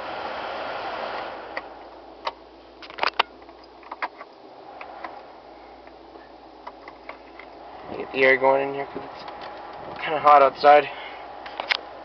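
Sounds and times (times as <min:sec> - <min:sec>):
ventilation fan blowing: 0:00.0 - 0:12.0.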